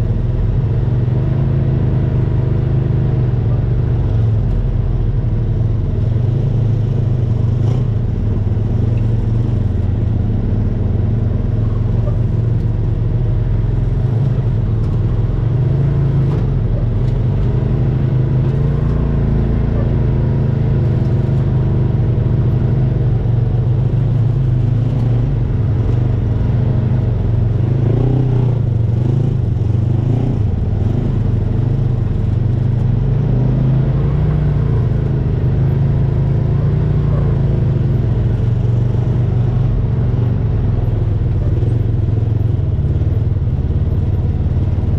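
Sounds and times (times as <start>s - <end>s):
utility vehicle engine drone: 0.0s - 44.9s.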